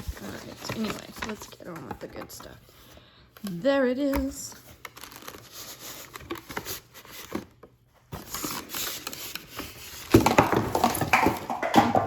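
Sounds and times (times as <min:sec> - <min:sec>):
packaging rustling and crinkling: 0:00.0 - 0:03.0, 0:04.3 - 0:12.0.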